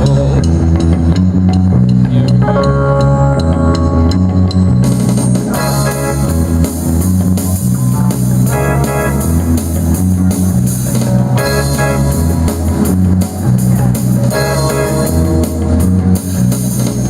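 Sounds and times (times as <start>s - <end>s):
bass line: 0.0s - 17.0s
drum kit: 0.0s - 17.0s
guitar chords: 0.0s - 17.0s.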